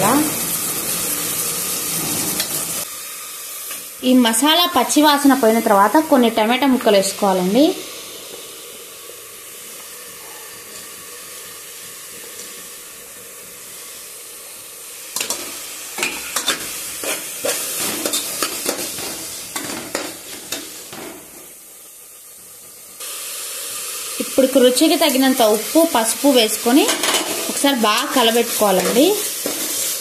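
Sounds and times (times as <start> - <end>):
tomato sizzling in hot oil: 0.0 - 30.0.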